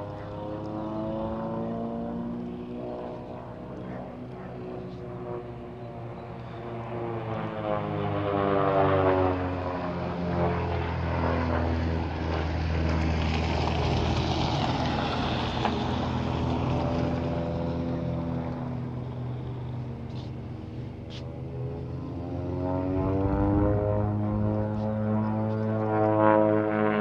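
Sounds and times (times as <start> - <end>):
airplane engine drone overhead: 0.0 - 27.0.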